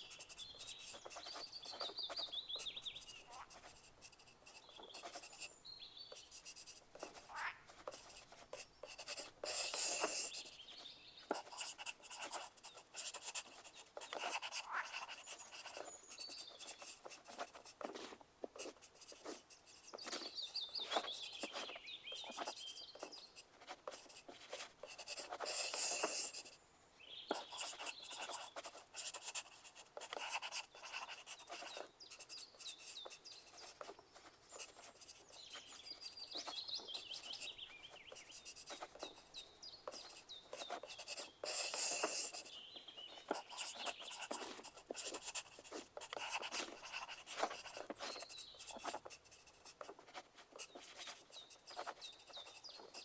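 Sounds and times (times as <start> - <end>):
pencil writing on paper: 0.0 - 26.6, 27.3 - 53.0.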